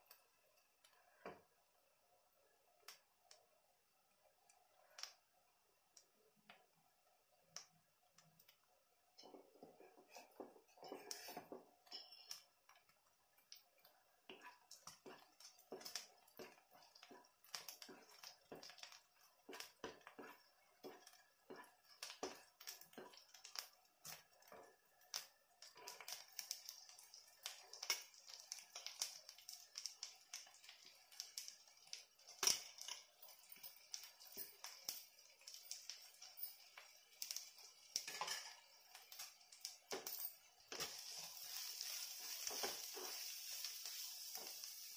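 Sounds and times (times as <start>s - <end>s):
frying oil crackles and pops: 0.0s - 44.9s
steady sizzle: 0.0s - 44.9s.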